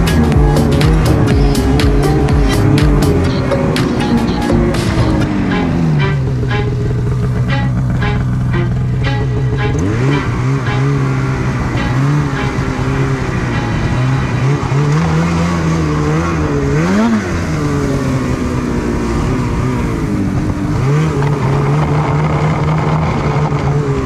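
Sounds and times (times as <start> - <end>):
snowmobile engine revving: 0.0 - 24.0
steady rushing noise: 0.0 - 24.0.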